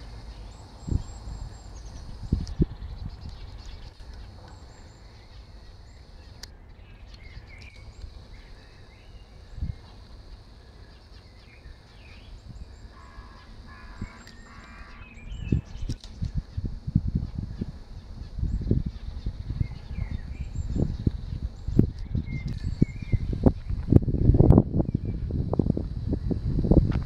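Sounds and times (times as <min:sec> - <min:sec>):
birds chirping and calling: 0:00.0 - 0:24.0
steady low rumble: 0:00.0 - 0:27.0.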